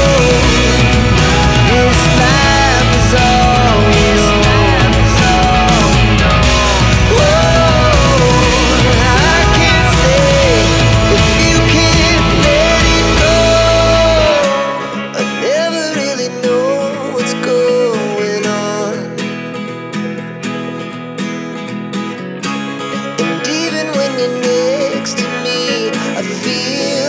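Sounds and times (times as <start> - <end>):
song with singing and acoustic guitar: 0.0 - 27.0.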